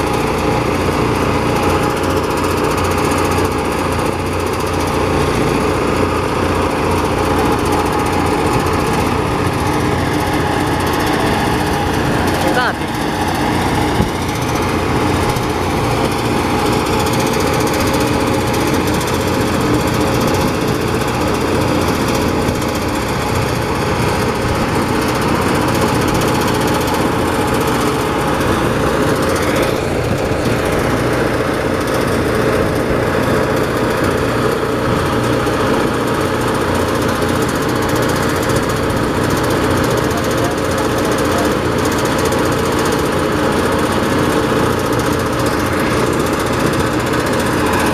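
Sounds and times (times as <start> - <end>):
rice thresher engine running: 0.0 - 47.9.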